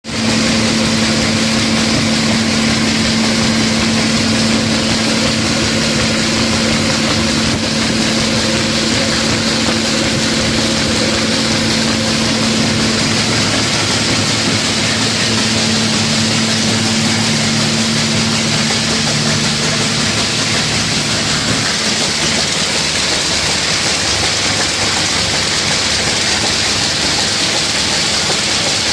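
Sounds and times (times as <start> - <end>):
flour mill grinder running: 0.0 - 28.9.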